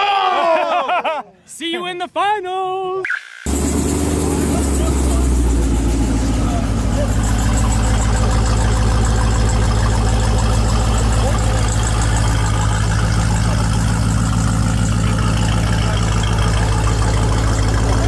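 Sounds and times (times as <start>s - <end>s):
car engine idling: 3.5s - 18.0s.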